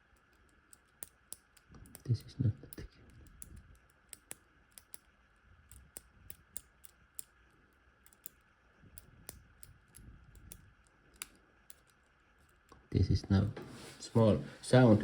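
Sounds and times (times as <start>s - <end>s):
padlock wheels clicking: 0.0s - 12.7s.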